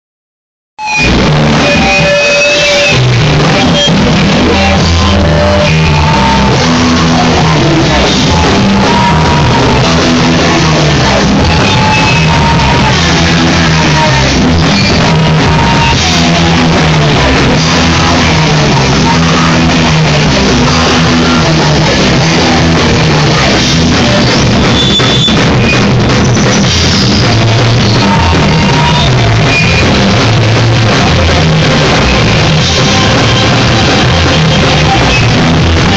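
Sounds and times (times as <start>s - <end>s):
bass line: 0.8s - 35.9s
drum kit with crashing cymbals: 0.8s - 35.9s
electric guitar: 0.8s - 35.9s.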